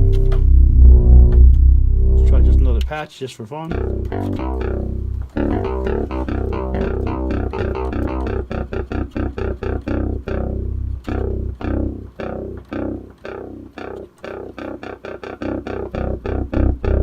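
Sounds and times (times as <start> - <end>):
synthesizer repeated notes: 0.0 - 2.8, 3.7 - 17.0
deep sustained synth bass: 0.0 - 2.9, 3.7 - 17.0.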